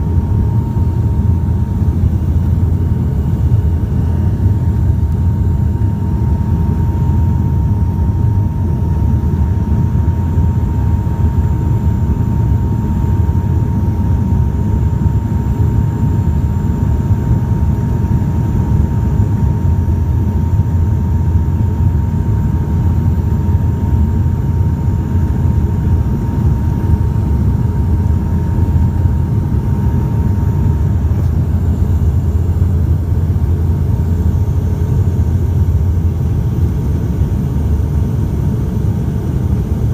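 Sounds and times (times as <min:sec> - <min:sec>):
propeller engine drone: 0:00.0 - 0:39.9
thin steady whine: 0:00.0 - 0:39.9.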